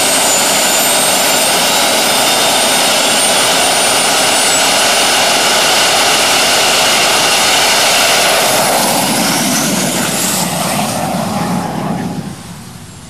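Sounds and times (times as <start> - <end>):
jet turbine engine whine: 0.0 - 13.0
rushing noise: 0.0 - 13.0.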